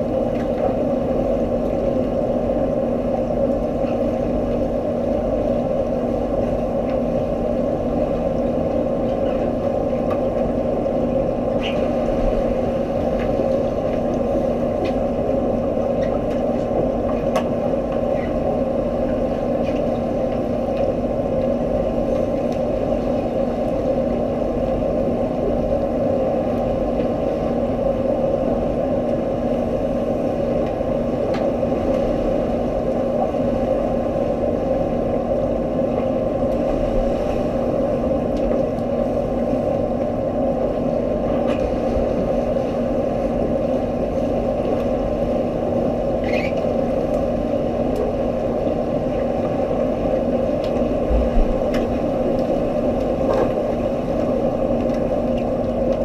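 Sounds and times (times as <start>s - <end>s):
low hum: 0.0s - 56.0s
muffled underwater drone: 0.0s - 56.0s.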